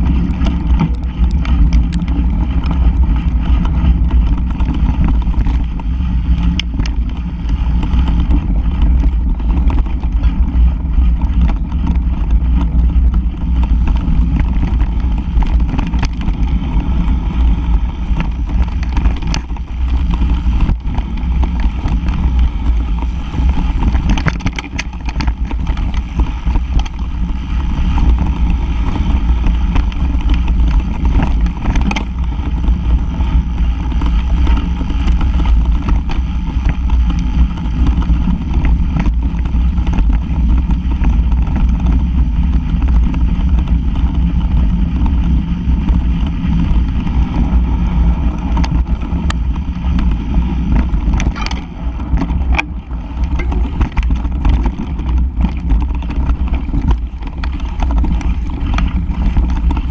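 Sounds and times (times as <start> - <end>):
bike knocks and rattles: 0.0 - 59.9
deep rumble of wind buffeting: 0.0 - 59.9.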